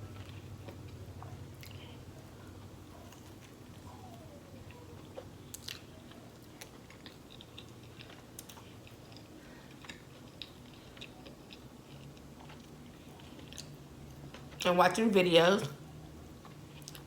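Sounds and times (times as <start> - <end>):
chewing food: 0.1 - 14.7, 15.9 - 17.0.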